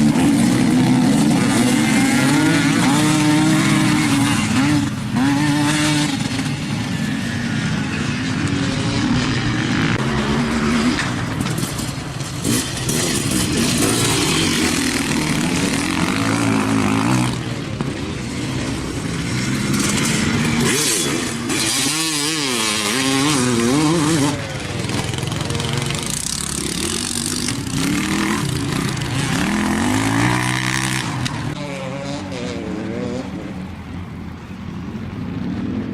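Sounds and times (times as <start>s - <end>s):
off-road engines revving: 0.0s - 34.2s
constant noisy rush: 0.0s - 35.9s.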